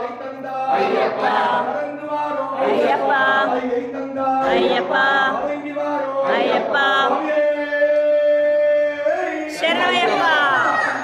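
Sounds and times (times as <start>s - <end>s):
male voices singing a chant: 0.0s - 10.9s.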